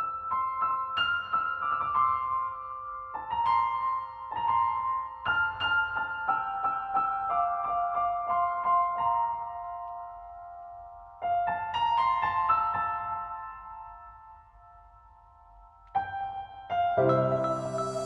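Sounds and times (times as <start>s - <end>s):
piano melody: 0.0s - 18.0s.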